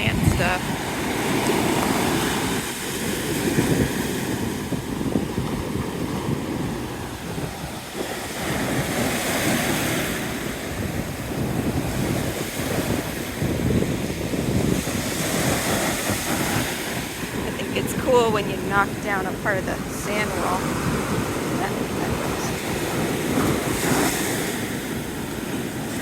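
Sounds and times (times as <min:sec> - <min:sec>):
surf breaking on beach: 0:00.0 - 0:26.0
wind buffeting microphone: 0:00.0 - 0:26.0.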